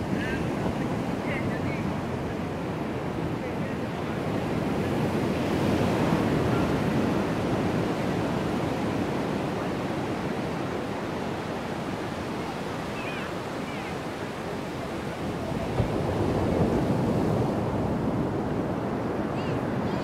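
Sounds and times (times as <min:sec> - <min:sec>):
surf rushing: 0:00.0 - 0:20.0
wind buffeting microphone: 0:00.0 - 0:20.0.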